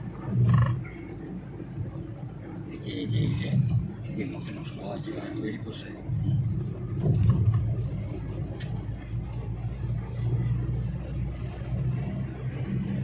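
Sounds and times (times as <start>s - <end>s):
engine and road hum: 0.0s - 13.0s.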